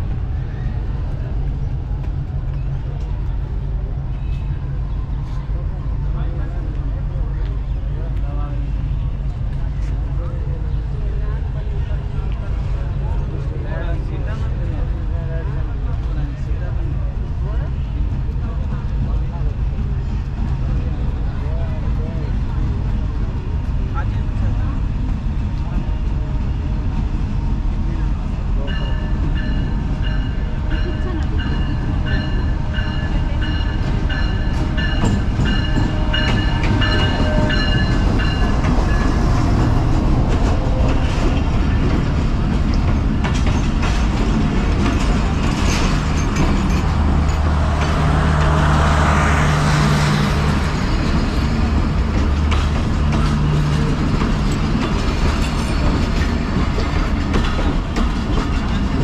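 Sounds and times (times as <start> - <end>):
diesel train rumbling: 0.0 - 59.0.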